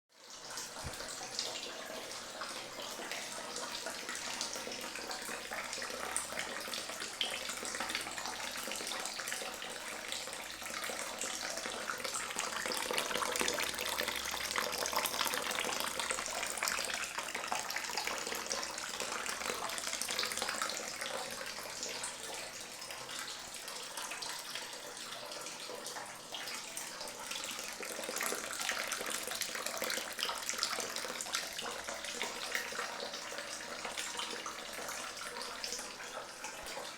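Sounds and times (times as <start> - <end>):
tap water running into bucket: 0.2 - 36.9.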